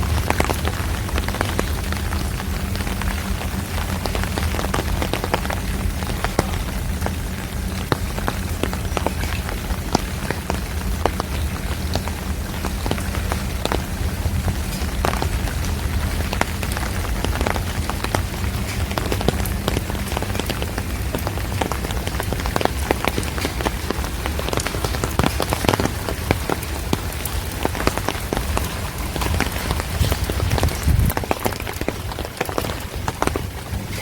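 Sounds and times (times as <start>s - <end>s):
close raindrop hits: 0.0s - 34.0s
steady rain: 0.0s - 34.0s.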